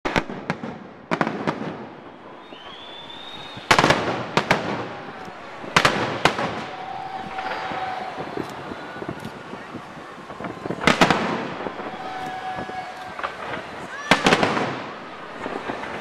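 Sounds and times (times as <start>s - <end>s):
fireworks bangs and crackling: 0.1s - 16.0s
firework whistle: 1.2s - 16.0s.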